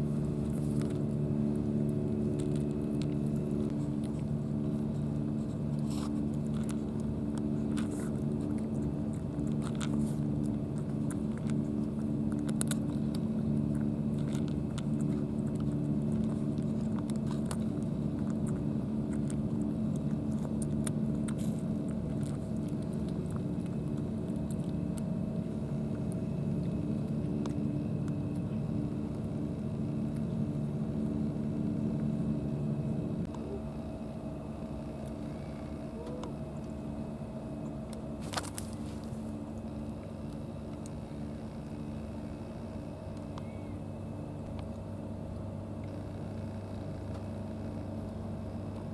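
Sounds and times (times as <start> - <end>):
low motor hum: 0.0 - 48.9.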